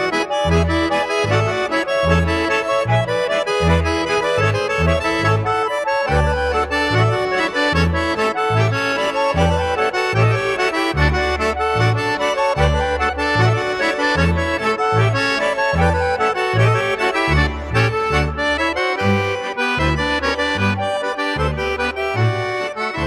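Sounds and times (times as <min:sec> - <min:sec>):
accordion folk music: 0:00.0 - 0:23.0
bouncing bass line: 0:00.0 - 0:23.0.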